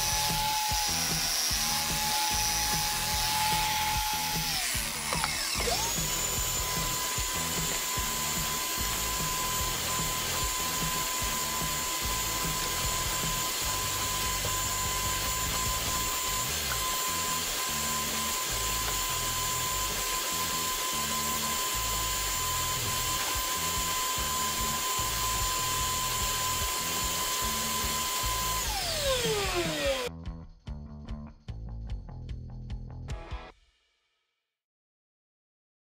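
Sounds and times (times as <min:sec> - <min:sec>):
carpet shearing tool whining: 0:00.0 - 0:30.1.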